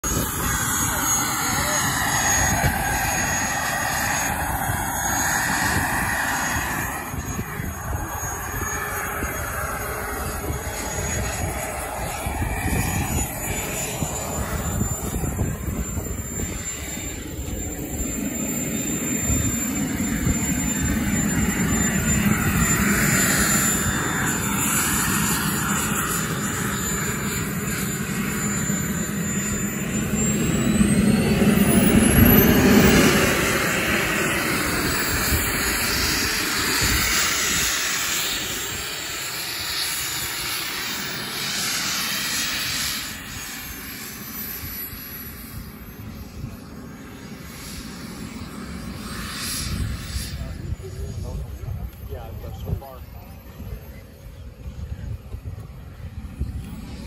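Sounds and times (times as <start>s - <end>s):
model jet turbine roaring and whining: 0.0s - 57.0s.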